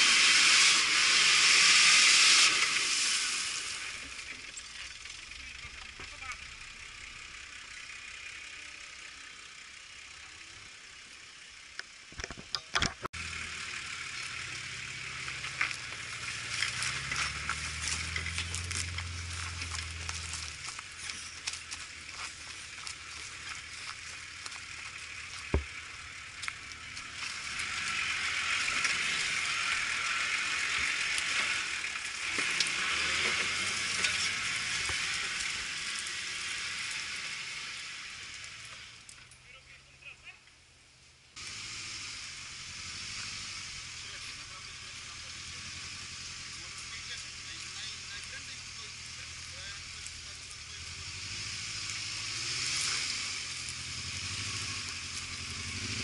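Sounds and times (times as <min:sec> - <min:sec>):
vehicle engine at low revs: 0:00.0 - 0:56.0.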